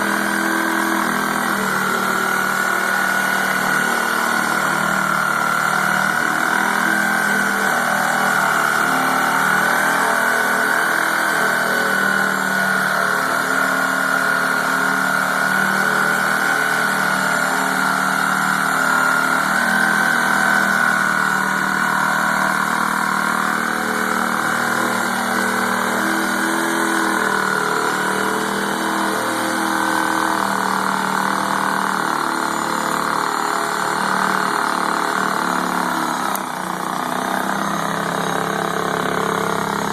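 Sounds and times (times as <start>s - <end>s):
reciprocating saw cutting: 0.0s - 39.9s.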